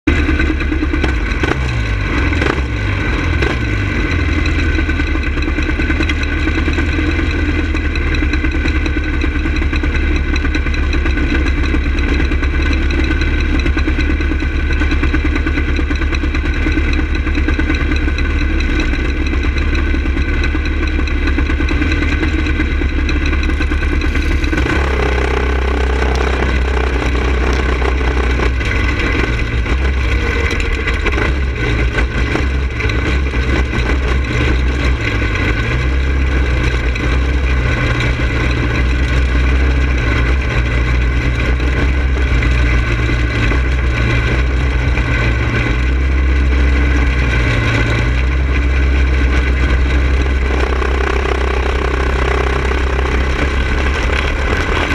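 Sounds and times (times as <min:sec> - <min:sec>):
go-kart engine idling: 0:00.0 - 0:54.9
other kart engines: 0:00.0 - 0:54.9.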